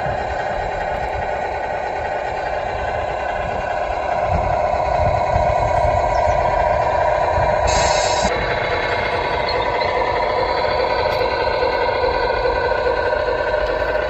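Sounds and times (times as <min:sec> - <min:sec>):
model truck mechanical whine: 0:00.0 - 0:14.0.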